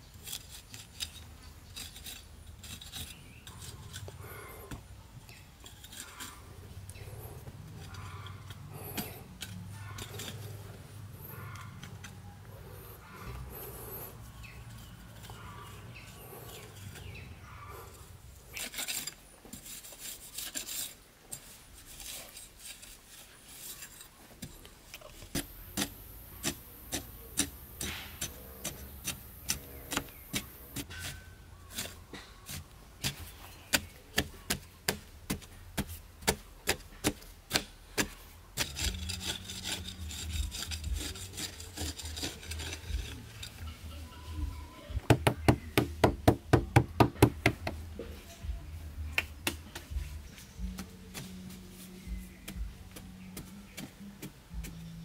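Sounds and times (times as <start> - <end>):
scraping: 0.0 - 55.0.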